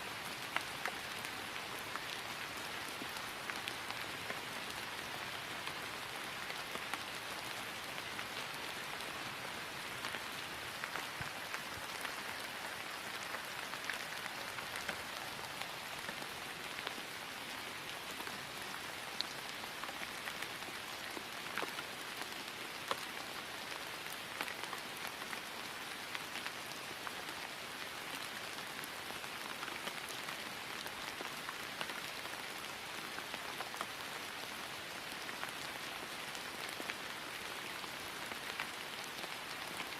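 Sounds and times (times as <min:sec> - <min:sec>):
rain falling on grass: 0:00.0 - 0:39.9.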